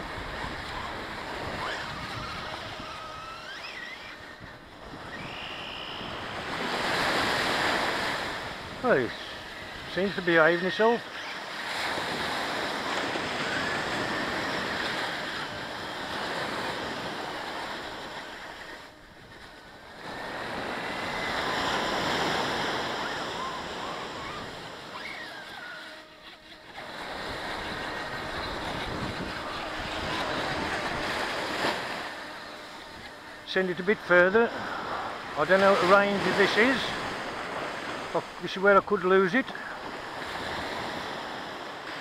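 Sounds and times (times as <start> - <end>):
surf breaking on a beach: 0.0 - 42.0.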